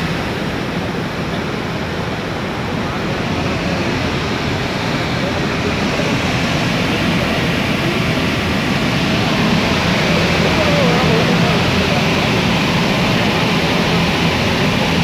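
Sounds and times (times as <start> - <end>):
water gushing from dam: 0.0 - 15.0.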